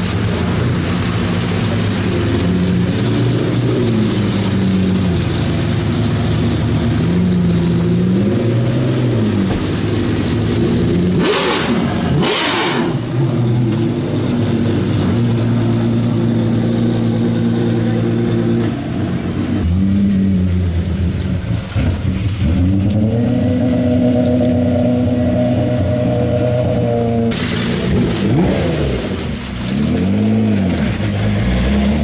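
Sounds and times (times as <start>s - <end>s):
car engines passing slowly: 0.0s - 32.0s
tyres hissing on wet road: 0.0s - 32.0s.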